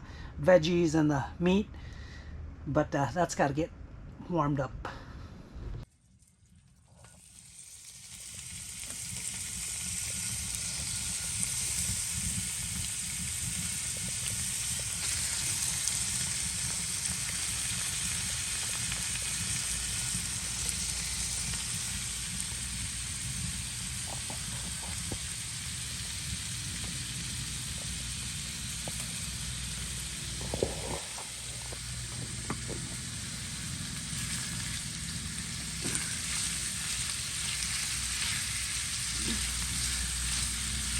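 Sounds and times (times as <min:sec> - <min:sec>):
food sizzling in a frying pan: 0:06.2 - 0:40.9.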